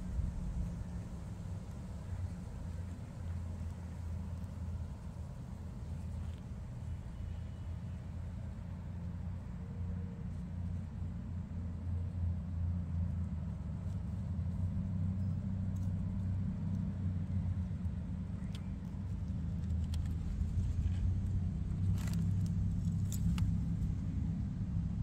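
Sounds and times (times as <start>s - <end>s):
low engine-like hum: 0.0s - 25.0s.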